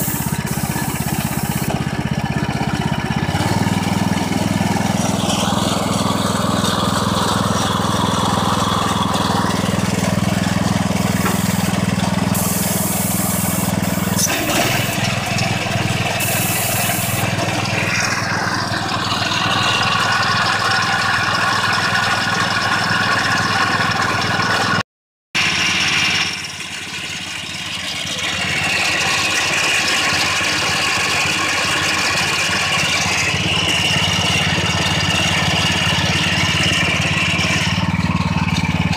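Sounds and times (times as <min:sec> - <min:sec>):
small engine idling: 0:00.0 - 0:24.8, 0:25.4 - 0:38.9.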